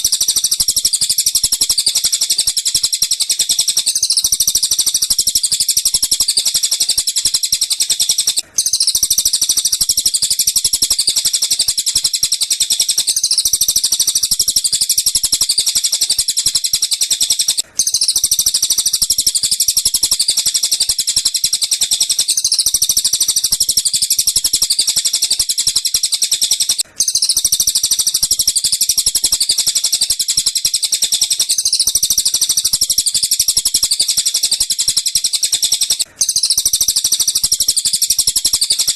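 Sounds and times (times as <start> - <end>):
rapid high-pitched bird chatter: 0.0 - 38.9.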